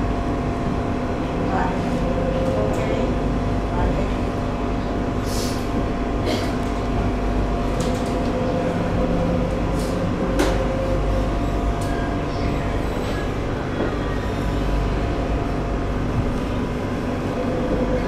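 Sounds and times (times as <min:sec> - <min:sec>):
train humming: 0:00.0 - 0:18.0.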